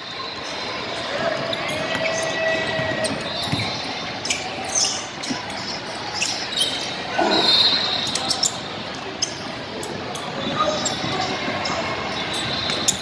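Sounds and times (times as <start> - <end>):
sneaker squeaks: 1.3 - 13.0.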